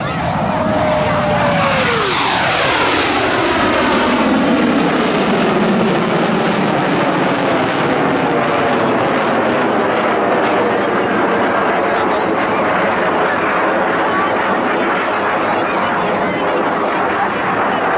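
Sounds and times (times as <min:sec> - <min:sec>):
jet engines roaring past: 0:00.0 - 0:17.9.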